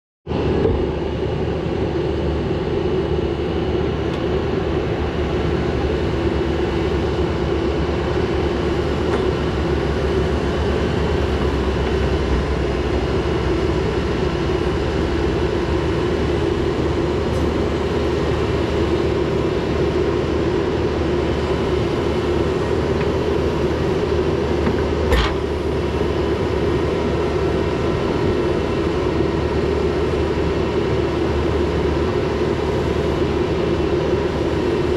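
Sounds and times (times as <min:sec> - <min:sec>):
diesel engine running: 0:00.3 - 0:34.9.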